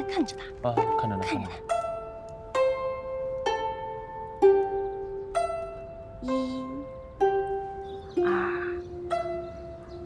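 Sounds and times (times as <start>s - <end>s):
plucked zither notes: 0.0s - 10.0s.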